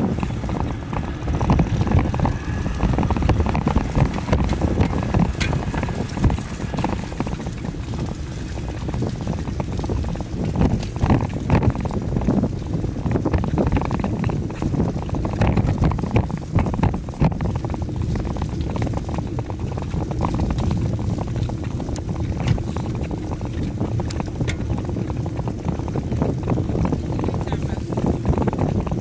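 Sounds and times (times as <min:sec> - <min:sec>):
bicycle knocks and rattles: 0:00.0 - 0:29.0
wind buffeting microphone: 0:00.0 - 0:29.0.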